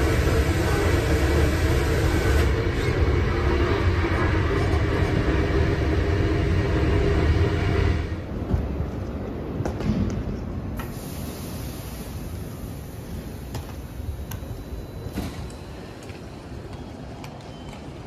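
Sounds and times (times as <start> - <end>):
station platform ambience: 0.0 - 18.0
train running rumble: 0.0 - 18.0.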